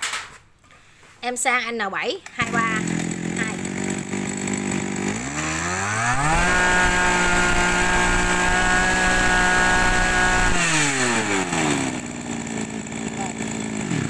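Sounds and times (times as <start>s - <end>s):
brush cutter engine revving: 2.4s - 14.0s.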